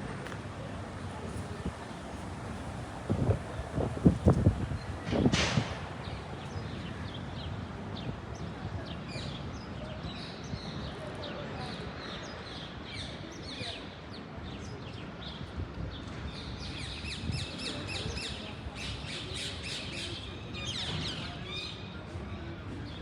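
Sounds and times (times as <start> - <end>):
low hum of city noise: 0.0 - 23.0.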